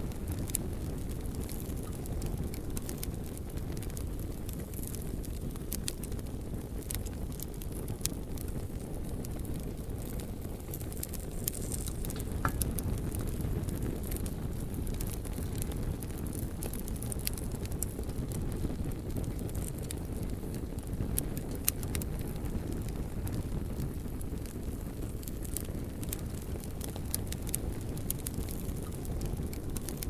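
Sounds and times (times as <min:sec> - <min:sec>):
fire crackling and popping: 0:00.0 - 0:30.0
rush of flame: 0:00.0 - 0:30.0.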